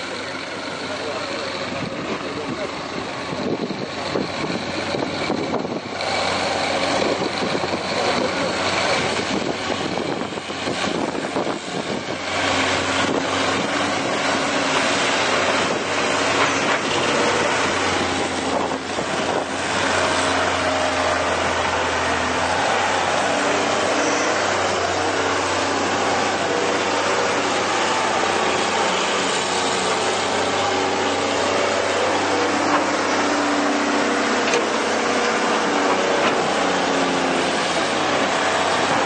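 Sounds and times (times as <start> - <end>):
diesel excavator engine under load: 0.0 - 39.0.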